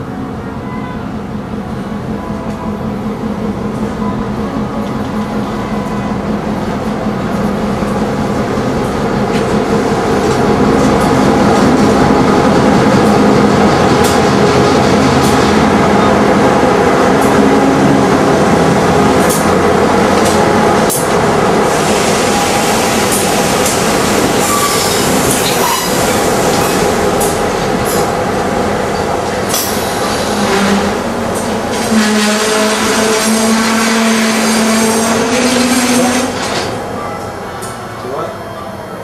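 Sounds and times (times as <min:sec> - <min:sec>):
diesel locomotive engine drone: 0:00.0 - 0:39.0
train wheels clicking on rails: 0:04.6 - 0:32.1, 0:32.8 - 0:38.2.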